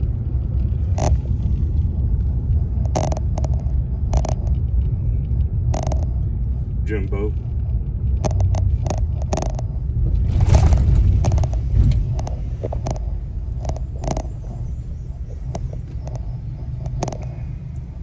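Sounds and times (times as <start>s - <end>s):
road and engine rumble: 0.0s - 18.0s
rush of noise: 0.0s - 18.0s
knocks and rattles: 0.4s - 4.9s, 5.7s - 6.3s, 7.5s - 17.5s.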